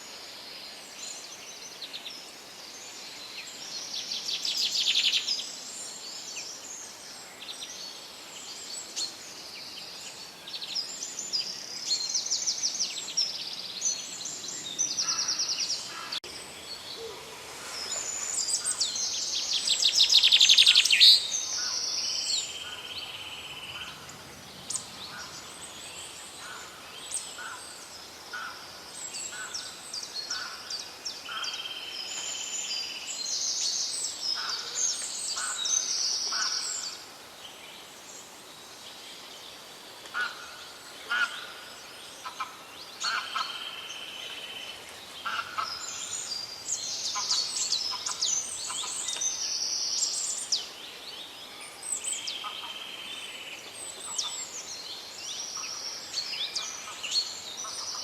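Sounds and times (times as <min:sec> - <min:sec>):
songbirds singing: 0:00.0 - 0:58.0
steady background hiss: 0:00.0 - 0:58.0.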